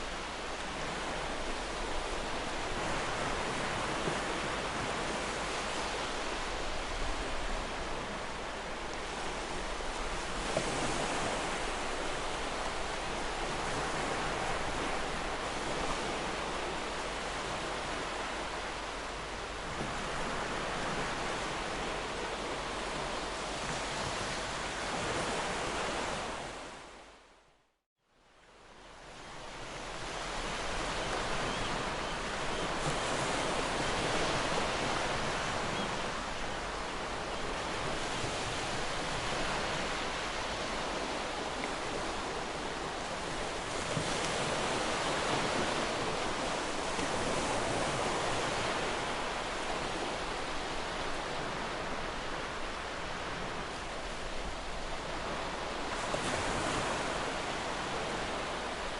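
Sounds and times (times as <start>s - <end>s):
ocean waves breaking on beach: 0.0s - 27.3s, 28.4s - 58.9s.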